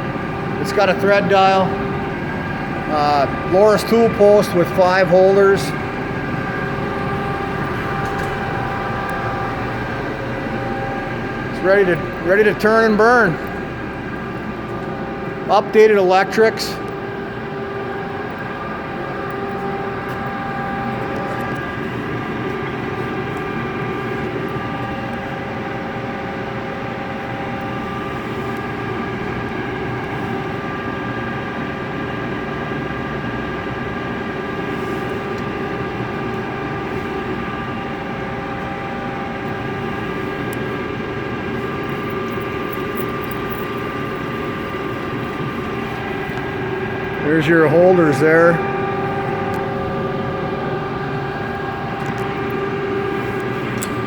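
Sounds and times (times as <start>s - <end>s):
lathe running: 0.0s - 54.0s
motor and gearing whine: 0.0s - 54.0s.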